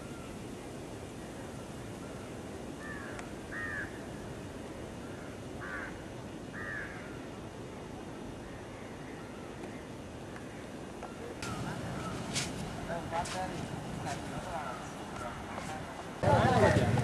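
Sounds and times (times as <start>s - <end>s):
birds harsh calls: 0.0s - 7.4s, 8.4s - 17.0s
background hiss: 0.0s - 17.0s.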